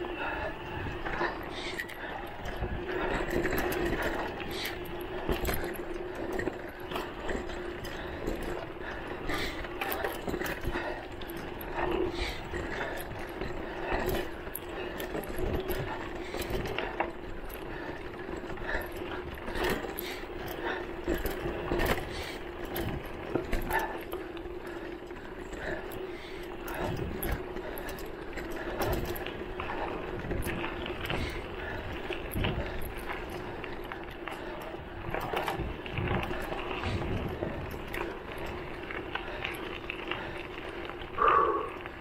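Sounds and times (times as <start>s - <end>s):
bike rattling over bumps: 0.0s - 42.0s.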